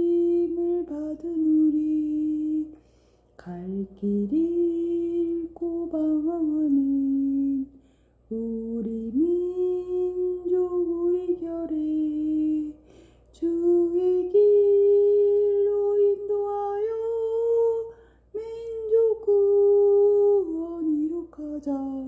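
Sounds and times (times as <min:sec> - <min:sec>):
woman singing a hymn: 0:00.0 - 0:02.8, 0:03.4 - 0:22.0.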